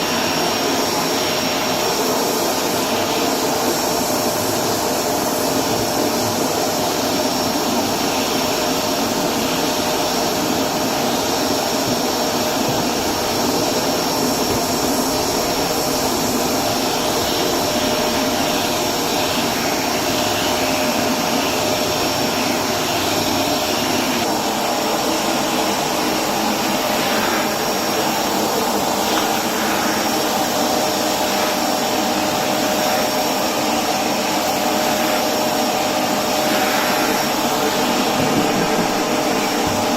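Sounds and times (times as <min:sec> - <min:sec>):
vacuum cleaner whine: 0:00.0 - 0:39.9.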